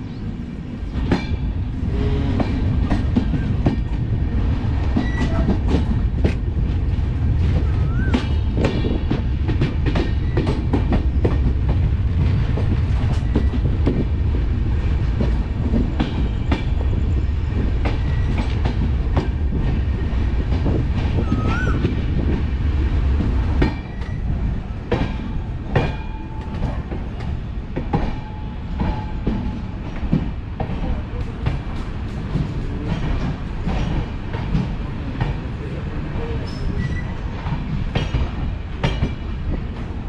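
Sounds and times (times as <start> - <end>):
train rumbling on rails: 0.0 - 40.0.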